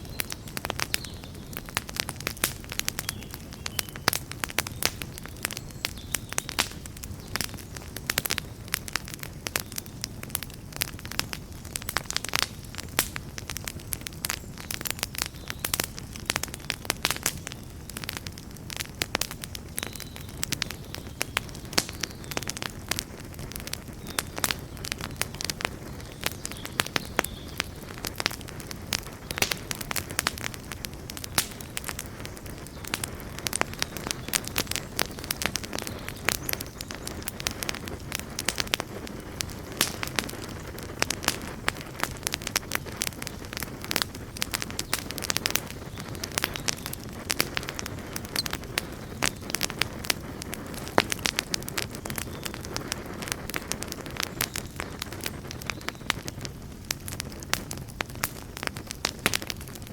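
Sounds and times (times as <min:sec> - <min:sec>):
campfire wood crackling and popping: 0:00.0 - 0:59.9
low rumble of flame: 0:00.0 - 0:59.9.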